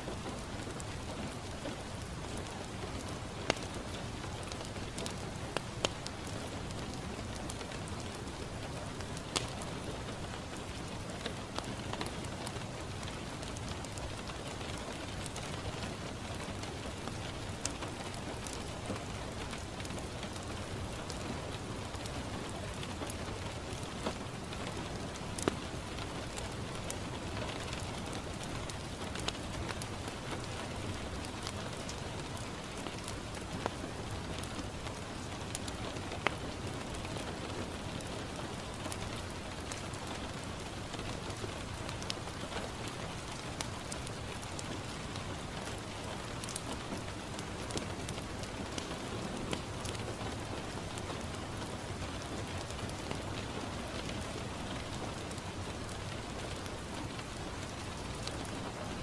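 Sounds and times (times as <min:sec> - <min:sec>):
rain on a window pane: 0:00.0 - 0:59.0
wood fire crackling: 0:00.0 - 0:59.0.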